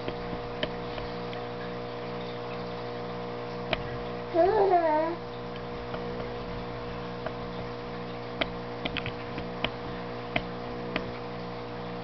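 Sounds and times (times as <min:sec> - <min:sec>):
pulsing electrical hum: 0:00.0 - 0:12.0.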